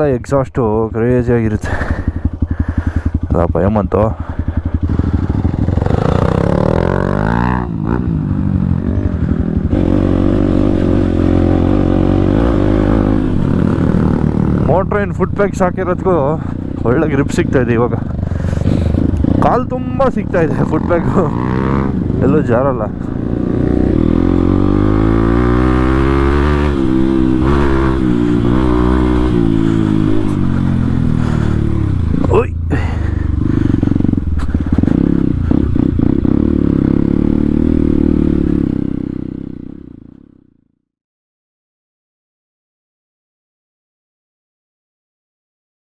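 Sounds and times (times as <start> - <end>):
loud motorcycle engine: 1.5 - 40.6.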